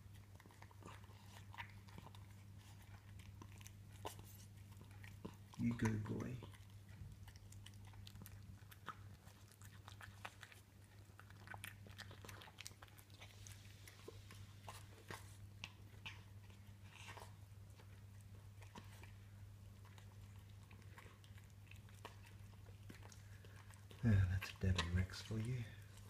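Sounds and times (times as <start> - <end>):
cat chewing and crunching food: 0.0 - 26.0.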